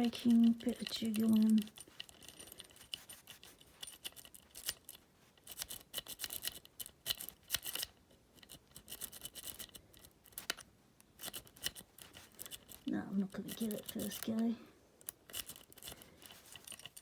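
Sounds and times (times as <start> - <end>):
metallic clicking and scraping in lock: 0.0 - 17.0.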